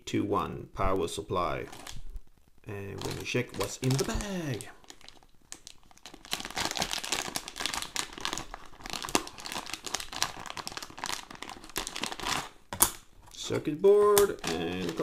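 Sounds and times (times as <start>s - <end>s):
foil-like plastic bag crinkling: 1.6s - 2.1s, 2.8s - 15.0s.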